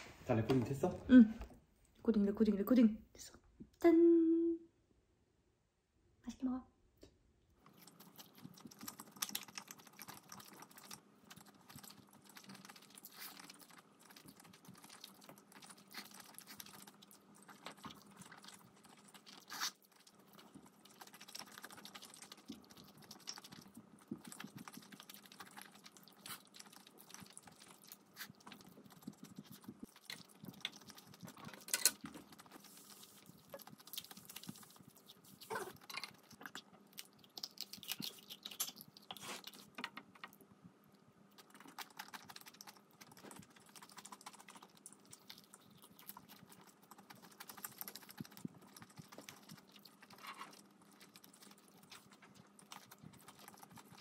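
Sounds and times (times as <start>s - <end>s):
person chewing: 7.6s - 54.0s.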